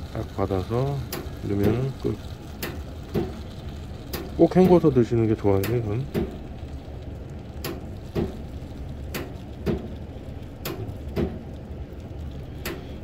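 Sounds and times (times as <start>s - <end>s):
steady low hum: 0.0s - 13.0s
water trickling into a paper cup: 0.0s - 13.0s.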